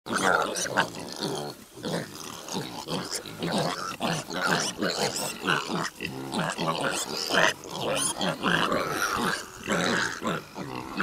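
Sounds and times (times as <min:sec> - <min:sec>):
piglets grunting: 0:00.1 - 0:11.0.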